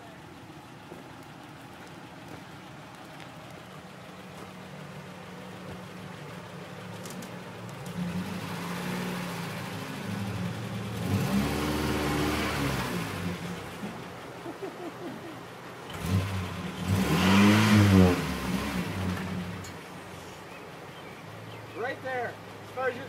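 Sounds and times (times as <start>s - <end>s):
truck engine pulling under load: 0.0s - 23.0s.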